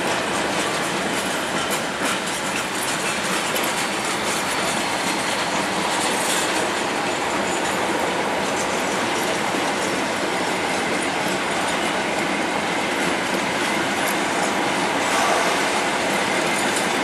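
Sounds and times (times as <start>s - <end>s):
wheels clicking over rail joints: 0.0s - 15.3s
train wheels rumbling on rails: 0.0s - 17.0s.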